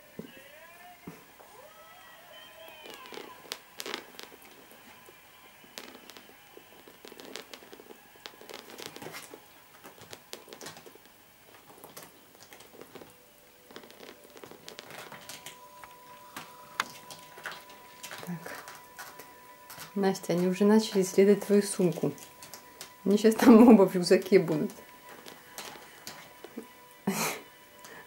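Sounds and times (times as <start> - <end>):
fabric rustling: 2.6 - 27.3.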